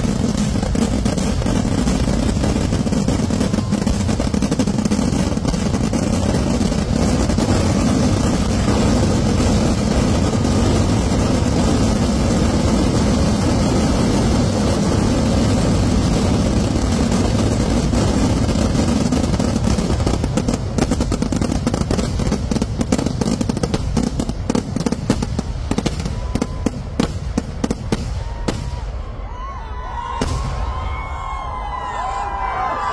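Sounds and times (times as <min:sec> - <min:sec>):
firecrackers and shells exploding: 0:00.0 - 0:29.3.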